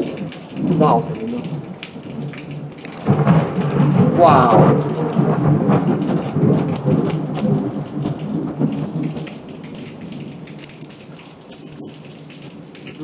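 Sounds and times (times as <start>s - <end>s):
heavy rain pattering: 0.0s - 13.0s
raindrops ticking on surfaces: 0.0s - 13.0s
thunder rumbling: 0.0s - 13.0s.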